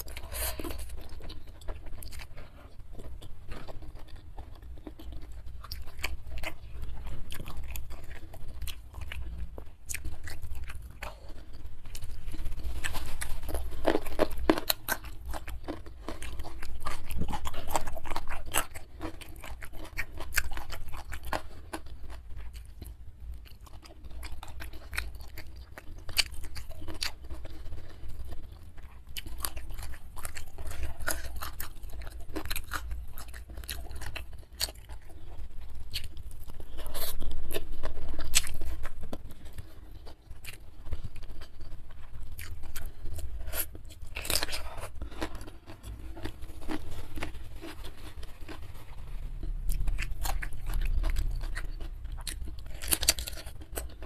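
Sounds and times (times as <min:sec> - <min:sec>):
person chewing and crunching: 0:00.0 - 0:54.0.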